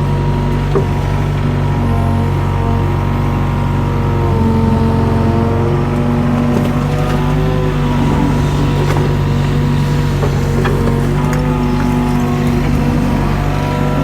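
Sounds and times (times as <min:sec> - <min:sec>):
excavator diesel engine running: 0:00.0 - 0:14.0
hydraulics whining: 0:00.0 - 0:14.0.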